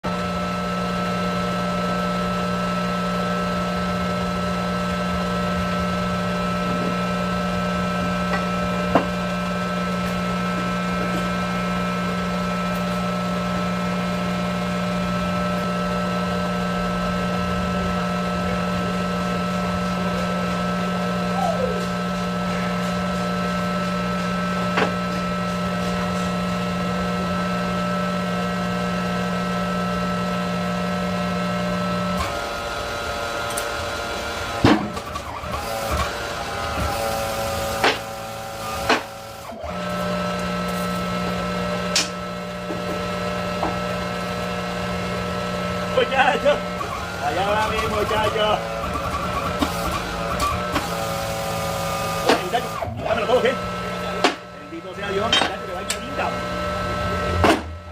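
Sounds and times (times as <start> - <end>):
machine motor droning: 0.1 - 57.9.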